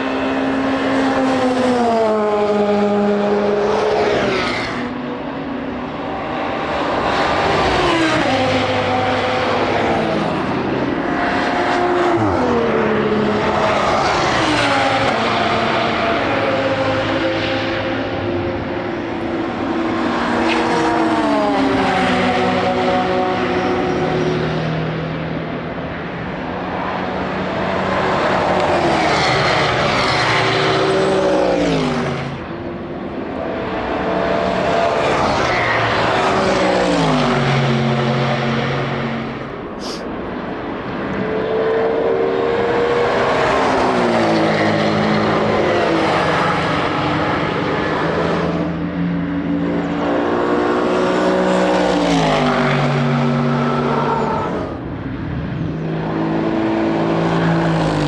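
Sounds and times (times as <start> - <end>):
race cars passing at speed: 0.0 - 58.0.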